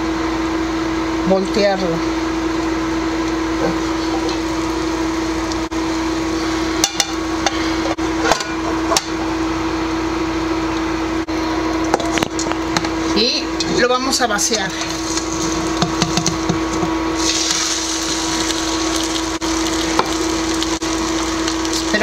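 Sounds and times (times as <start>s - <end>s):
portable cooktop humming: 0.0s - 22.0s.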